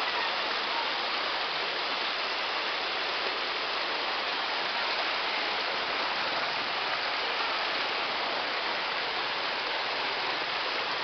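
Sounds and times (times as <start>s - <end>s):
floodwater rushing: 0.0s - 11.0s
rain hissing: 0.0s - 11.0s.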